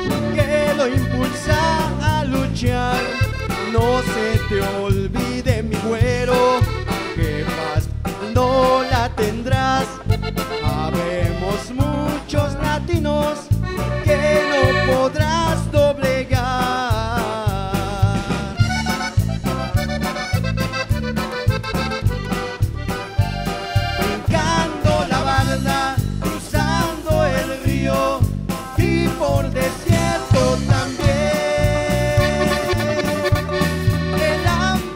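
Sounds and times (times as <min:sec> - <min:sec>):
accordion: 0:00.0 - 0:34.9
drum kit beat: 0:00.0 - 0:34.9
electric bass: 0:00.0 - 0:34.9
guitars: 0:00.0 - 0:34.9.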